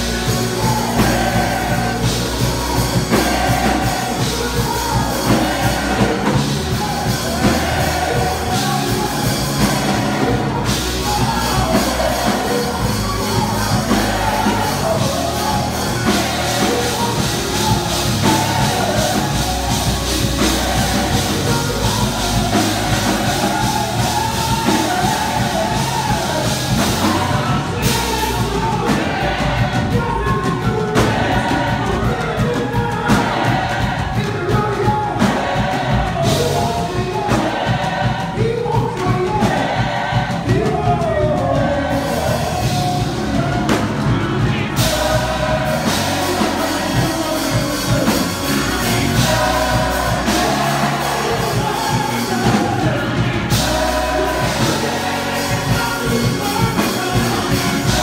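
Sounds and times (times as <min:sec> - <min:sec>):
band with bass and drums: 0:00.0 - 0:58.0
gospel voices singing: 0:00.0 - 0:58.0.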